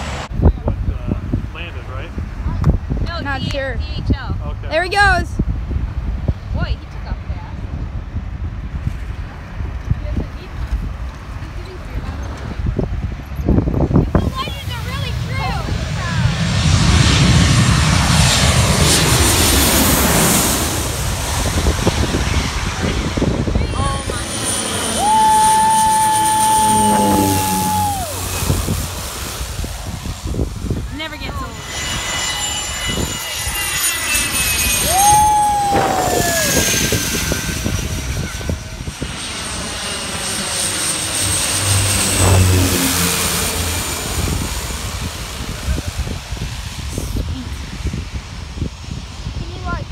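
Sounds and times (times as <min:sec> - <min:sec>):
plane engines passing overhead: 0:00.0 - 0:49.9.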